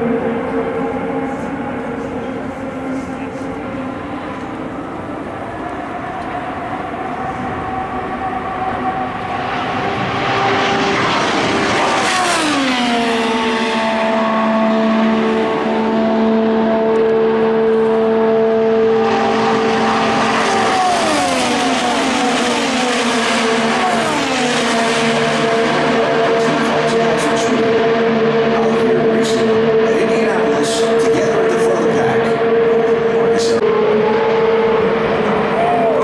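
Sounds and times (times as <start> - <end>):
race car engines at speed: 0.0 - 36.0.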